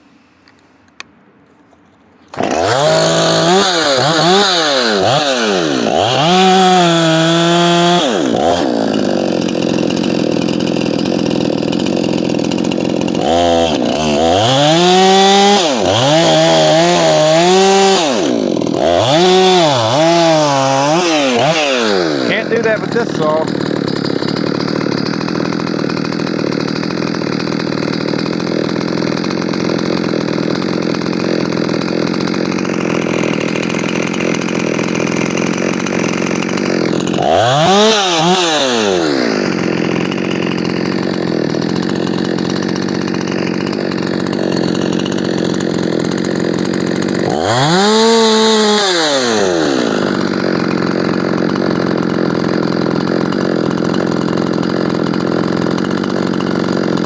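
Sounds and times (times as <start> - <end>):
chainsaw idling and revving: 1.6 - 57.0.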